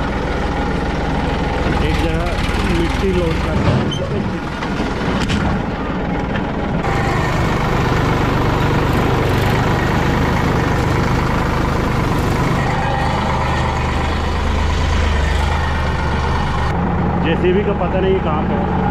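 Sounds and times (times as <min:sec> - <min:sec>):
tractor diesel engine drone: 0:00.0 - 0:18.9.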